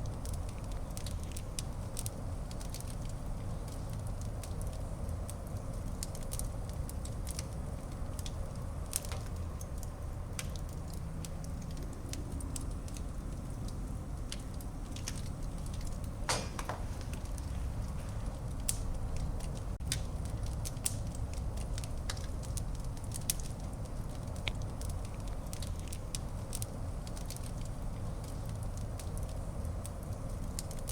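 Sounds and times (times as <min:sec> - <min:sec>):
fire crackling and popping: 0:00.0 - 0:30.9
fire roaring in fireplace: 0:00.0 - 0:30.9.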